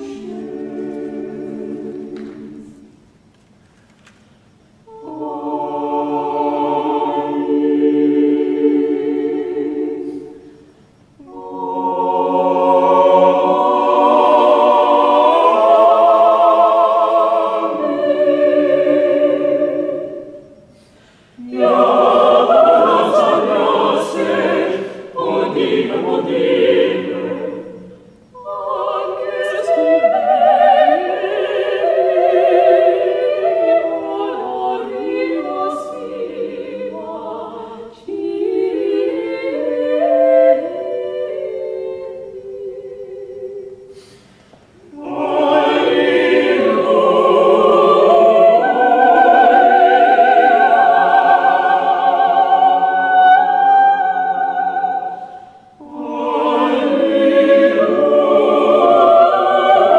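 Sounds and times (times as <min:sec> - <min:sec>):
choir singing sustained chords: 0:00.0 - 0:03.3, 0:04.3 - 0:59.9.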